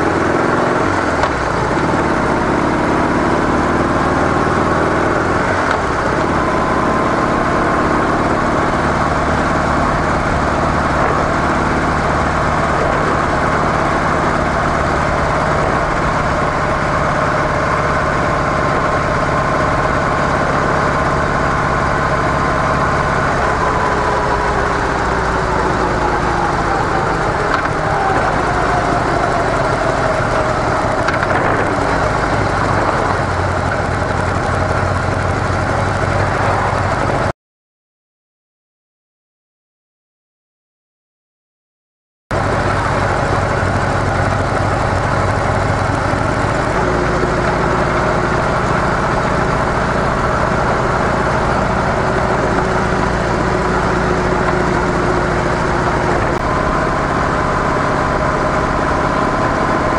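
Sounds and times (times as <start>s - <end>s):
motorcycle engine running: 0.0s - 37.3s, 42.4s - 59.9s.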